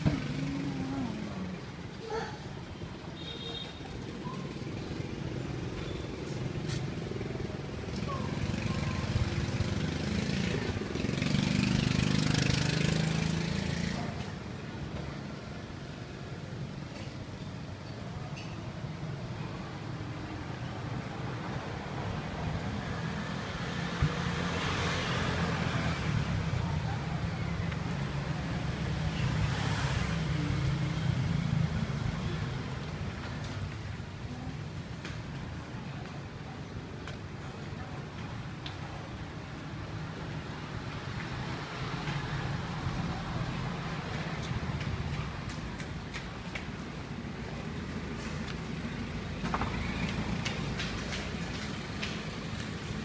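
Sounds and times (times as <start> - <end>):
vehicle engine rumble: 0.0 - 53.0.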